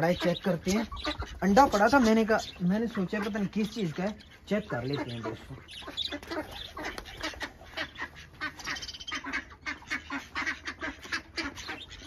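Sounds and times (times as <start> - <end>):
small bird chirp: 0.0 - 10.2
ducks quacking: 0.0 - 12.0.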